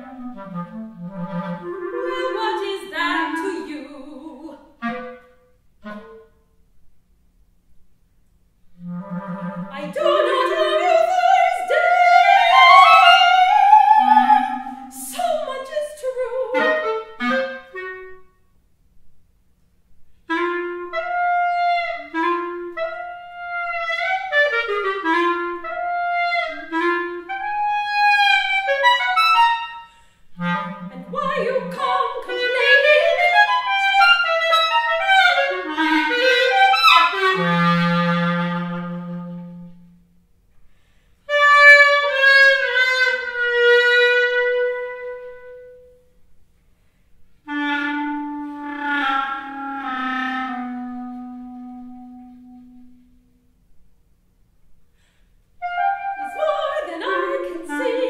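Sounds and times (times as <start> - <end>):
clarinet playing: 0.0 - 6.7, 8.7 - 18.5, 20.1 - 53.6, 55.0 - 58.0.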